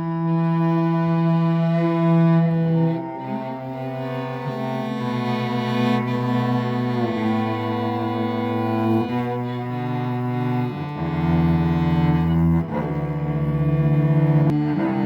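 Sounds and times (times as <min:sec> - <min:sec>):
cello bowed low notes: 0:00.0 - 0:15.0.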